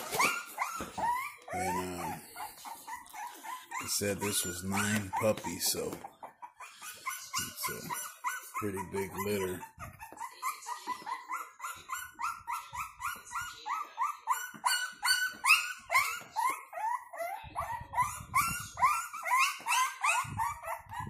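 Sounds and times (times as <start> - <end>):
puppy yelping and whining: 0.0 - 21.0.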